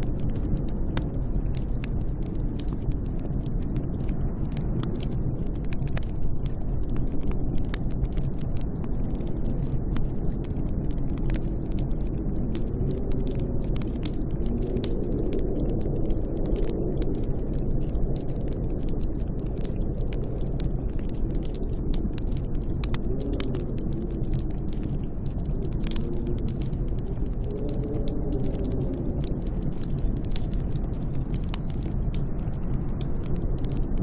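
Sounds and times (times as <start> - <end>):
small sharp crackles: 0.0 - 34.0
snowstorm wind rumbling: 0.0 - 34.0.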